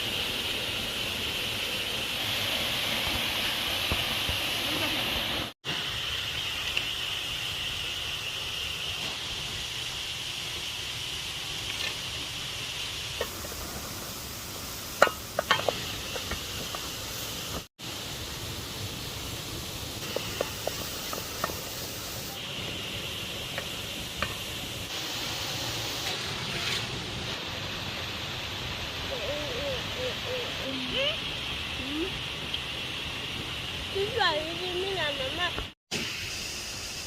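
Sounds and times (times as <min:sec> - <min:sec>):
waterfall hissing: 0:00.0 - 0:37.0.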